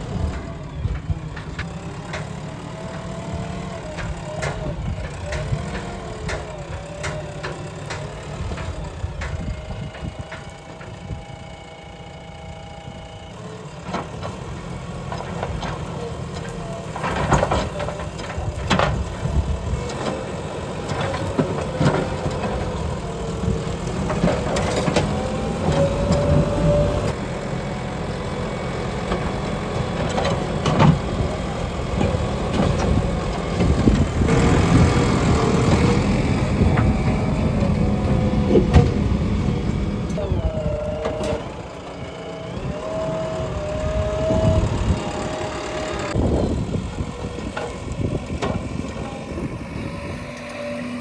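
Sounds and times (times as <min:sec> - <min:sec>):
backhoe diesel engine working: 0:00.0 - 0:51.0.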